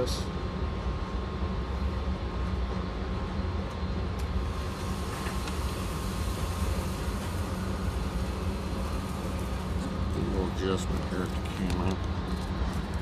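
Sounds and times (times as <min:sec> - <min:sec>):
faint steady hum: 0:00.0 - 0:13.0
low mechanical rumble: 0:00.0 - 0:13.0.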